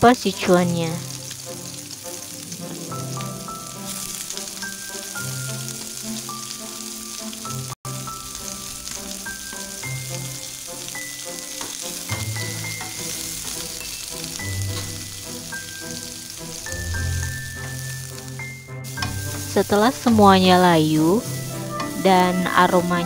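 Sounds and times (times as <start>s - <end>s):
food sizzling in hot oil: 0.0s - 23.0s
gentle background music: 0.0s - 23.0s.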